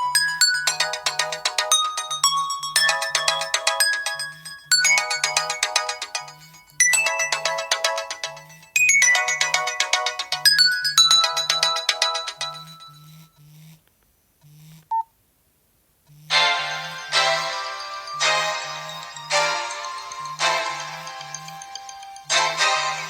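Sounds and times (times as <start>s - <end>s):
electronic ringtone melody: 0.0s - 13.2s, 16.3s - 23.0s.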